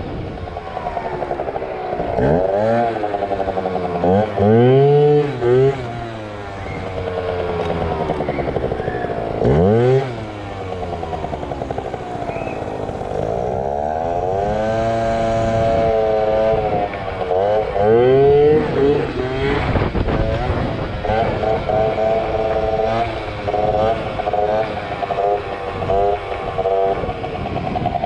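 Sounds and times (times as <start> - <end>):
two-stroke motorcycle engine revving: 0.0 - 28.0.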